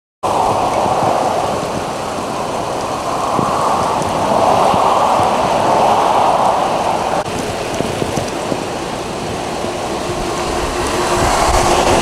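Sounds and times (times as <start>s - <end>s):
heavy rain: 0.2s - 12.0s
car tyres hissing on wet road: 0.3s - 12.0s.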